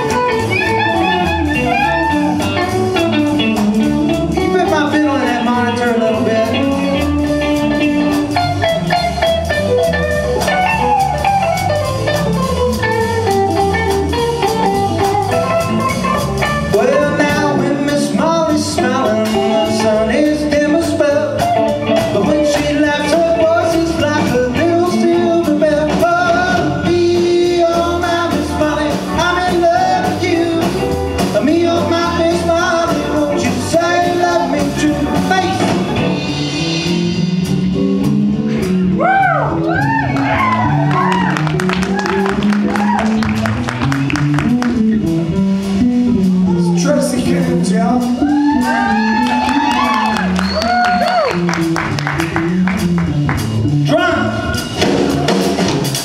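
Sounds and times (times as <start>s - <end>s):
western swing band playing: 0.0s - 56.0s.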